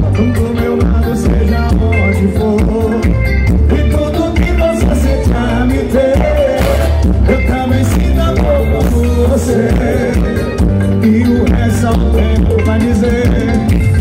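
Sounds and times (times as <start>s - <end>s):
heavy bass: 0.0s - 14.0s
live band playing over speakers: 0.0s - 14.0s
person singing: 0.0s - 14.0s.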